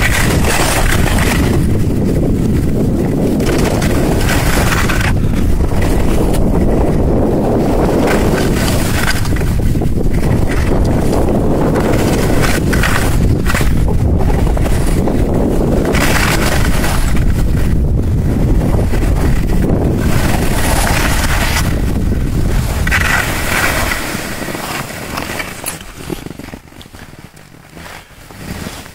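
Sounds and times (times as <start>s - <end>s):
skis sliding on packed snow: 0.0s - 28.9s
wind buffeting microphone: 0.0s - 28.9s.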